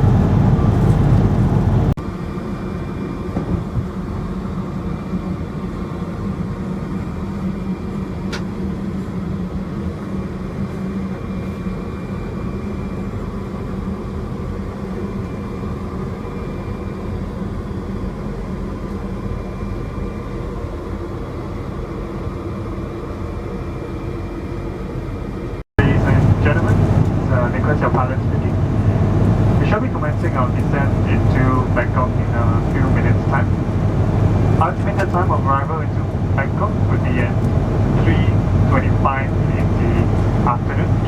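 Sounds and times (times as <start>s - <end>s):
airplane cabin engine drone: 0.0s - 41.0s.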